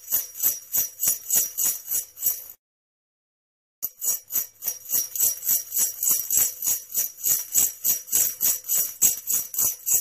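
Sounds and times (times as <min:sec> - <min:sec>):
sleigh bells shaking: 0:00.0 - 0:02.6, 0:03.8 - 0:10.0.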